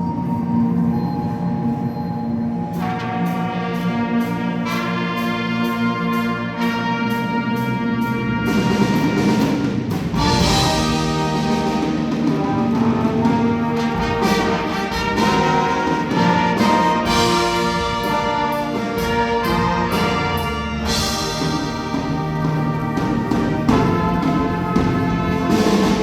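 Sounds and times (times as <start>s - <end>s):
brass sustained chords: 0.0s - 26.0s
percussion strokes: 0.0s - 26.0s.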